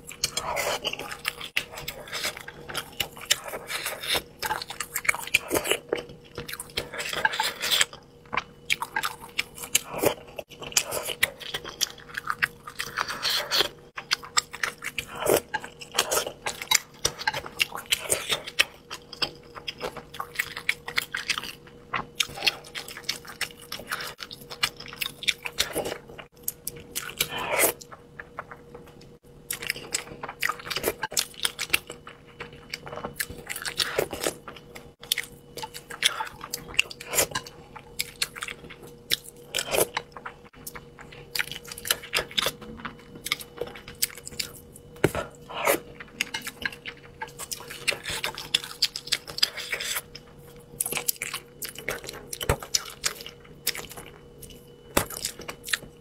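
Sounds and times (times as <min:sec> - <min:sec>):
faint steady hum: 0:00.0 - 0:56.0
person chewing: 0:00.0 - 0:56.0.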